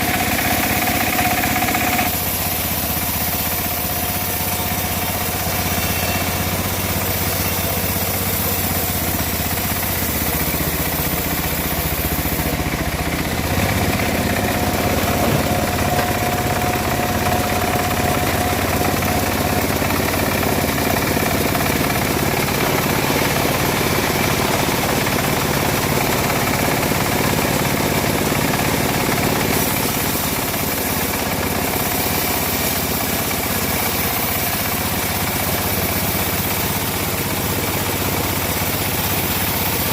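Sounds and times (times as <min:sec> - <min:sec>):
bandsaw mill sawing wood: 0:00.0 - 0:39.9.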